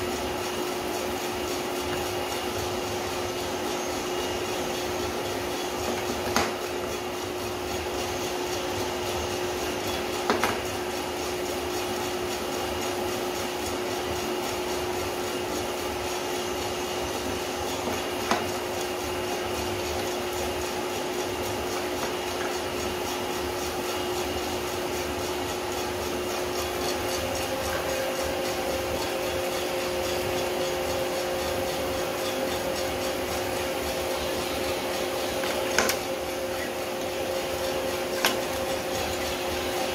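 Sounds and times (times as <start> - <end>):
coffee roaster fan and drum hum: 0.0 - 39.9.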